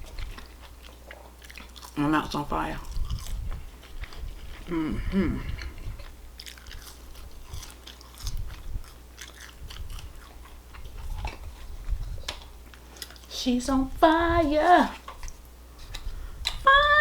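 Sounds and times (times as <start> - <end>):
person chewing food: 0.0 - 2.0, 2.6 - 13.4, 14.9 - 16.7.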